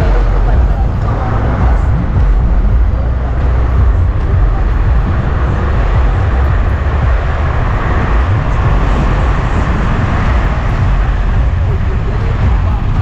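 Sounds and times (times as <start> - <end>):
car engine and tyre noise: 0.0 - 13.0
deep unsteady rumble: 0.0 - 13.0.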